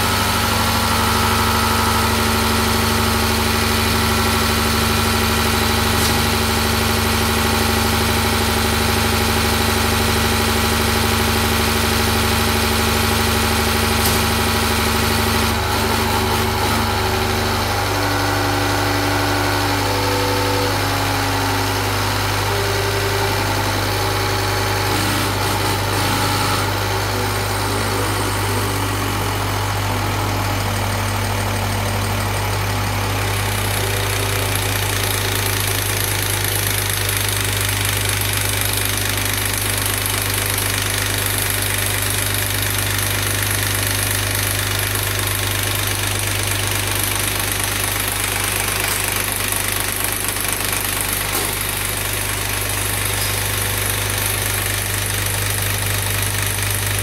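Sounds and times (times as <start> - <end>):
test bench pump running: 0.0 - 57.0.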